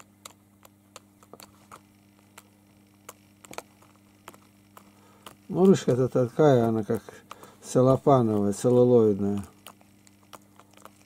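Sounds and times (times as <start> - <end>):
faint electrical hum: 0.0 - 11.0
kitten teeth clicking on pen: 0.0 - 11.0.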